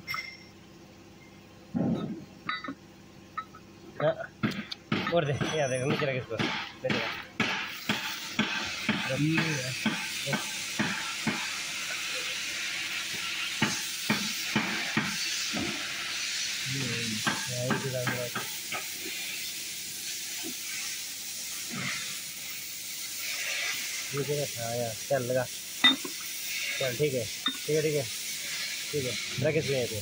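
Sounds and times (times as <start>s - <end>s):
steady hiss: 3.4s - 30.0s.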